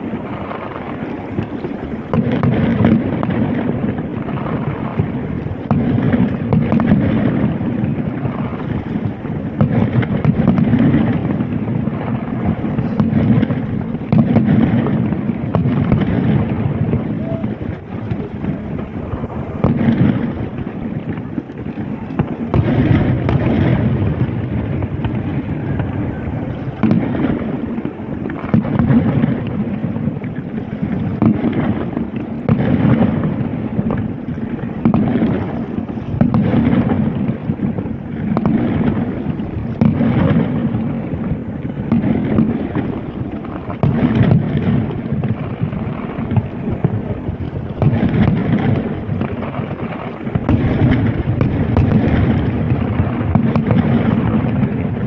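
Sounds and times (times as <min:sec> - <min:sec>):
fireworks bangs and booms: 0:00.0 - 0:55.0.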